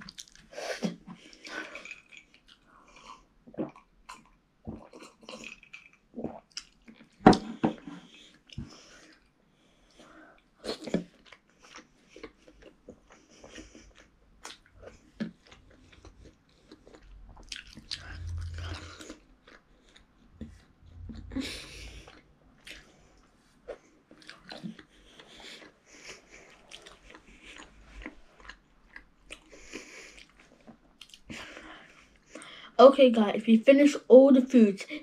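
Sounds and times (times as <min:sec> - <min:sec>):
person chewing food: 0:00.0 - 0:32.6.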